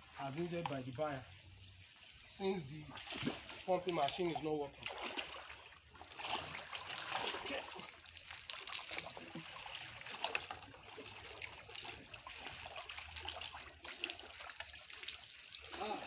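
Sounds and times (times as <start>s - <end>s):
water splashing and trickling: 0.0s - 16.0s.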